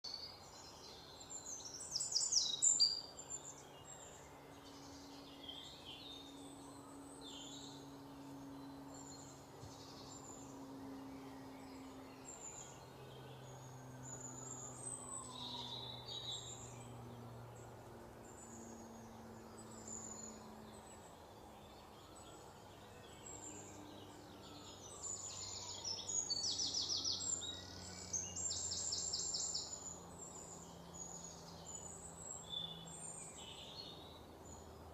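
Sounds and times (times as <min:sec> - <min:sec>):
songbirds chirping and trilling: 0:00.0 - 0:34.9
faint low hum: 0:00.1 - 0:34.9.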